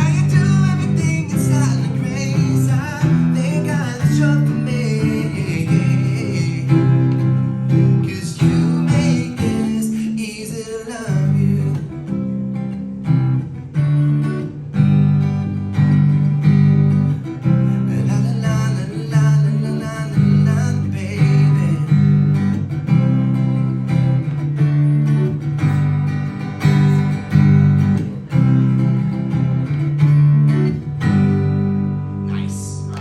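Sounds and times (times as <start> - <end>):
acoustic guitar strumming chords: 0.0 - 33.0.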